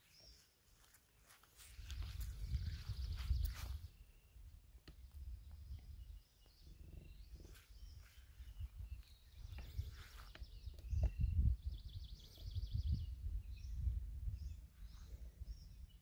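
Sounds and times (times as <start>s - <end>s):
small birds chirping: 0.0s - 16.0s
wind buffeting microphone: 1.7s - 4.0s, 5.0s - 16.0s.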